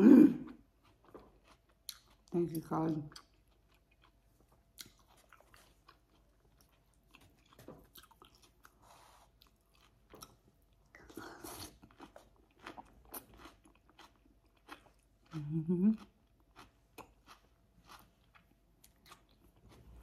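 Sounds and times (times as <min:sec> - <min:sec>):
person chewing and crunching salad: 0:00.0 - 0:20.0.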